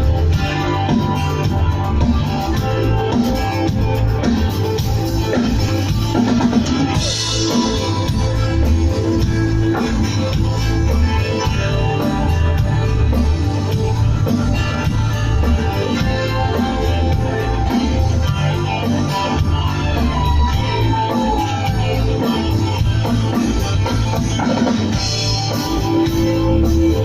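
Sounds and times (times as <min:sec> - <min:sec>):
instrumental rock music: 0:00.0 - 0:27.0.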